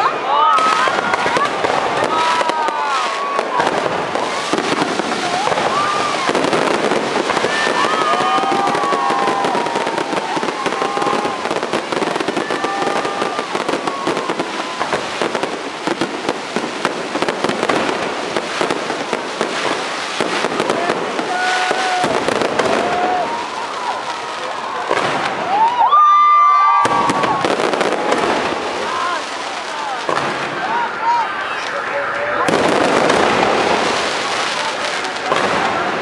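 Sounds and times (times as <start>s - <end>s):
fireworks crackling and popping: 0.0s - 36.0s.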